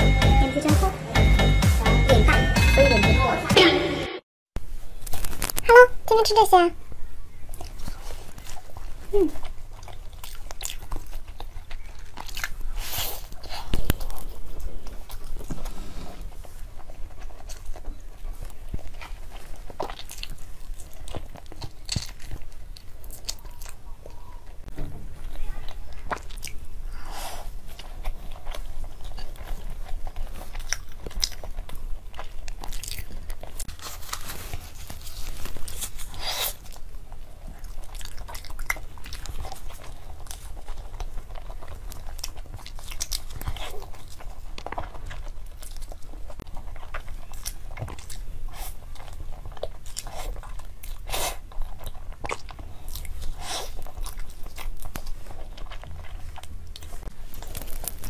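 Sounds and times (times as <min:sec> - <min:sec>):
person chewing pastry: 0:07.1 - 0:58.0
crunchy bites: 0:07.4 - 0:24.6, 0:25.6 - 0:58.0.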